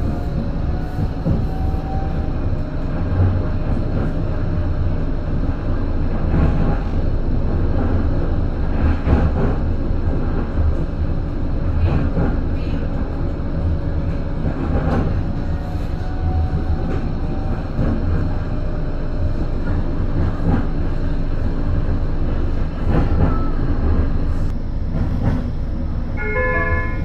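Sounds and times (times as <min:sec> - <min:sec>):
tram rumbling: 0:00.0 - 0:27.0.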